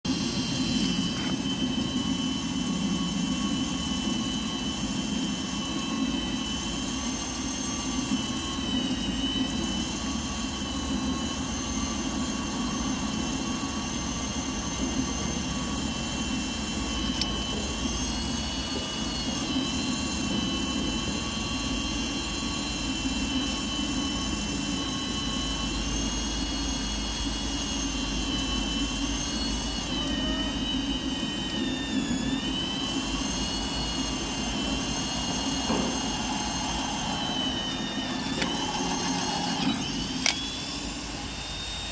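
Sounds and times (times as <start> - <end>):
machine high whine: 0.0 - 41.9
machine low rumble: 0.1 - 41.4.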